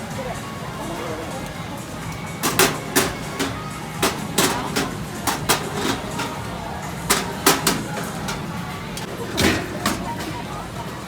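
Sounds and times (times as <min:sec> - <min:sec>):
market noise: 0:00.0 - 0:11.0
utensils knocking and clacking: 0:02.0 - 0:11.0.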